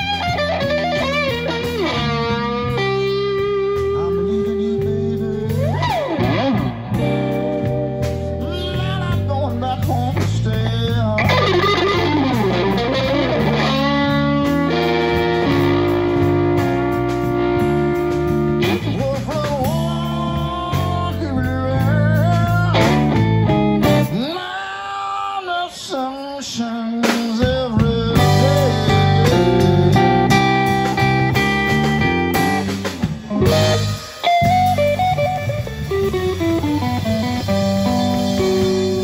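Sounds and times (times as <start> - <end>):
electric guitar with bent notes: 0.0 - 24.8, 27.0 - 39.0
bass guitar: 0.0 - 39.0
drums: 0.0 - 39.0.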